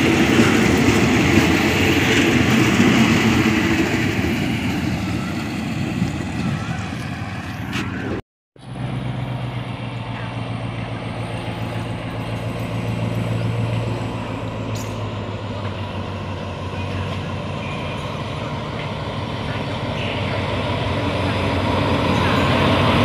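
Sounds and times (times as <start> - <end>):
diesel locomotive engine hum: 0.0 - 23.0.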